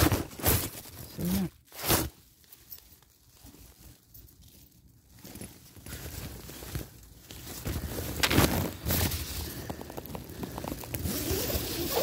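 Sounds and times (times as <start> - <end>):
tent fabric rustling: 0.0 - 12.0.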